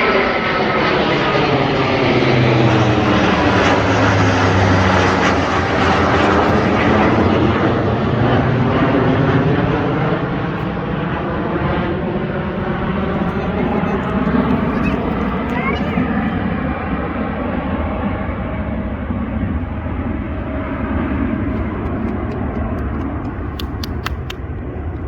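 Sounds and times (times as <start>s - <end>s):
fighter jets roaring overhead: 0.0s - 25.0s.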